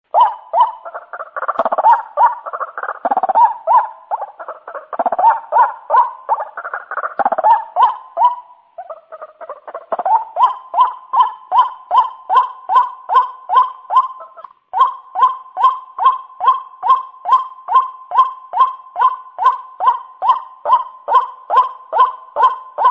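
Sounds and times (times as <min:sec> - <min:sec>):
waterhen calling: 0:00.1 - 0:22.9.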